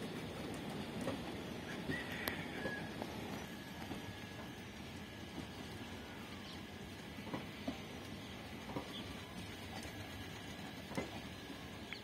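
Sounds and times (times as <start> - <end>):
train coaches rumbling past: 0.0 - 12.0.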